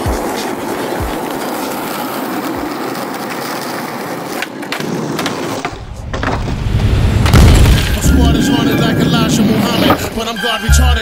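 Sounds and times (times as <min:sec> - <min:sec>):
skateboard wheels rolling on asphalt: 0:00.0 - 0:10.1.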